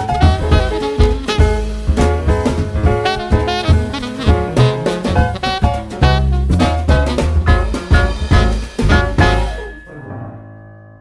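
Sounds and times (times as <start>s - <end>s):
background music with beat: 0.0s - 9.8s.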